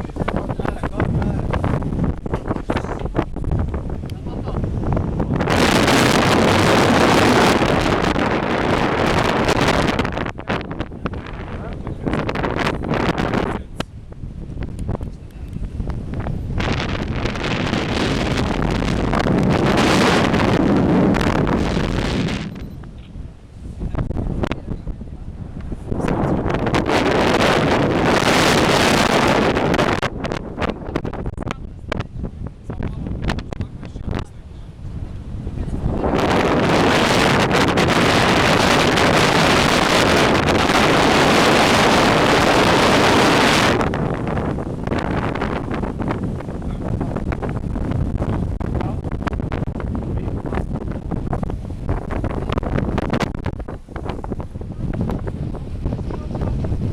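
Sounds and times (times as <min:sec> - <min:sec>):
wind on microphone: 0:00.0 - 0:56.9.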